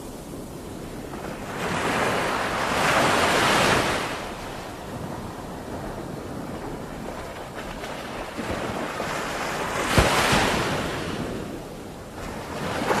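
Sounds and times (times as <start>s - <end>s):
wind buffeting microphone: 0.0s - 13.0s
ocean waves lapping: 0.9s - 13.0s.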